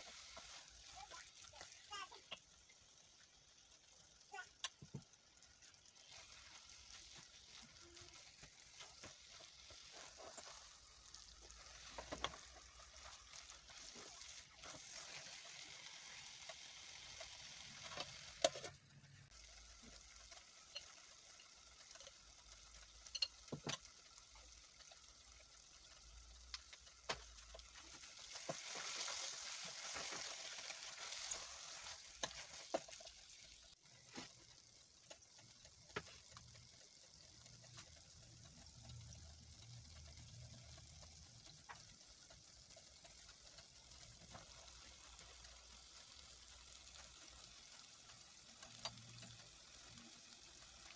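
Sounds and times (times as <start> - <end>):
stew frying in a pot: 0.0 - 50.9.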